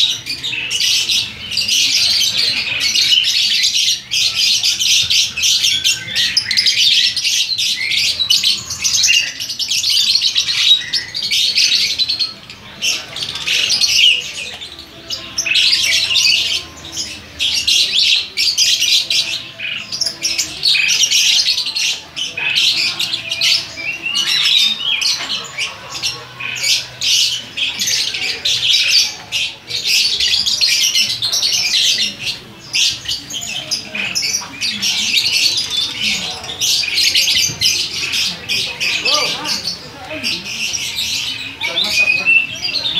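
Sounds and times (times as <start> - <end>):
cage birds chattering: 0.0 - 42.9.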